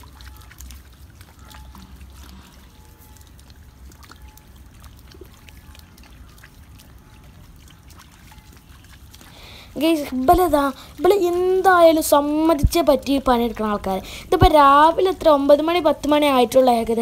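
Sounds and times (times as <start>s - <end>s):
muddy water splashing and squelching: 0.0s - 17.0s.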